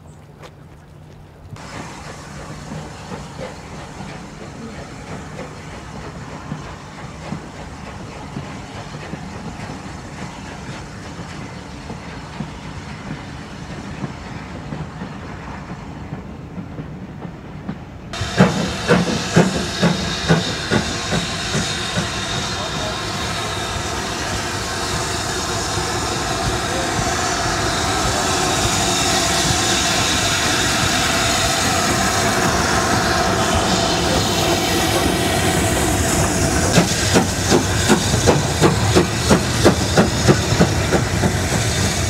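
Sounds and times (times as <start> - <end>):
steam locomotive hiss and rumble: 1.4 - 42.0.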